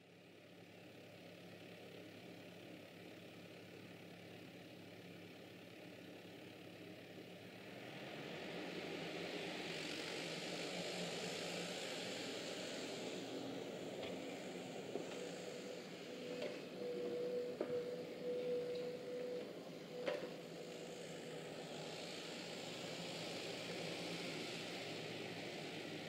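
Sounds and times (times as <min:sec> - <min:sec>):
excavator diesel engine running: 0:00.4 - 0:26.0.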